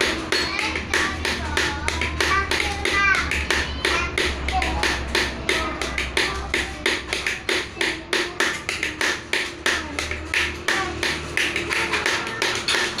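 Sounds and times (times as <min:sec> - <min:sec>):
lion dance percussion: 0:00.0 - 0:13.0.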